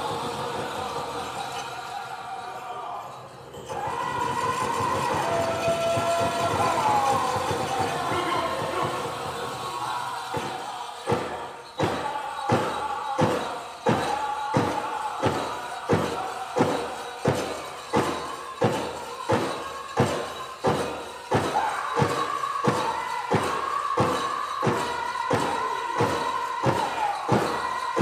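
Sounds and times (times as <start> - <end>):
singers' high voices: 0.0 - 28.0
large drum beat: 3.7 - 28.0.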